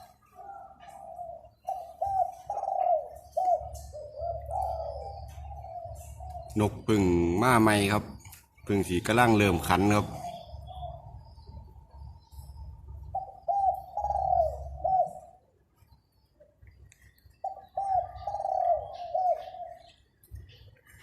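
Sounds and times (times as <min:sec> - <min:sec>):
dove cooing: 0:00.0 - 0:08.2, 0:09.2 - 0:16.6, 0:17.2 - 0:21.0.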